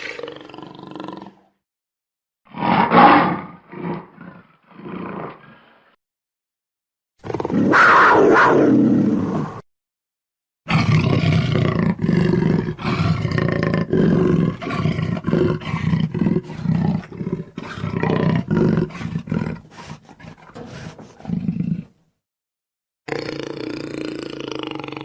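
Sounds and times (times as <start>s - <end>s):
big cat roaring: 0.0s - 1.5s, 2.5s - 5.9s, 7.2s - 9.6s, 10.7s - 22.0s, 23.1s - 25.0s.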